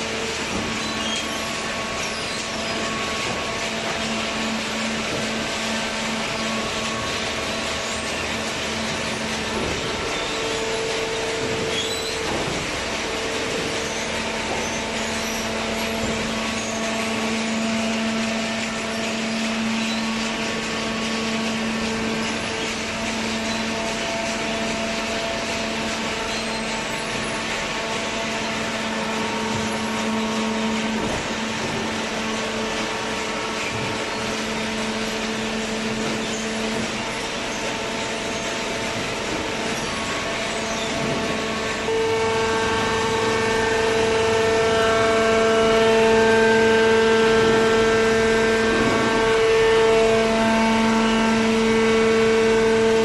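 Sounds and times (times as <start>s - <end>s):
shredding and baling machinery: 0.0s - 53.0s.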